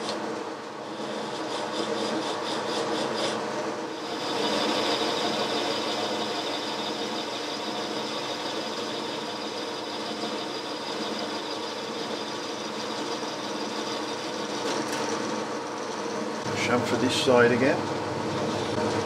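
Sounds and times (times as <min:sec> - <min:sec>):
lathe motor and gear whine: 0:00.0 - 0:19.0.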